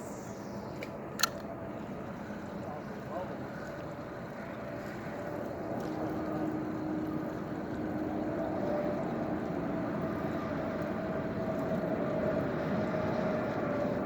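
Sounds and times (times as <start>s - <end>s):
faint hum: 0.0s - 14.0s
water noise: 0.0s - 14.0s
wind: 0.0s - 14.0s.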